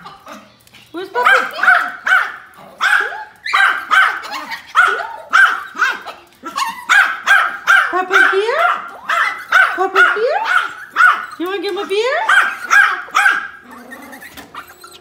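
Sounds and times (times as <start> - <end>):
small dog yapping: 1.2 - 11.5, 12.2 - 15.0.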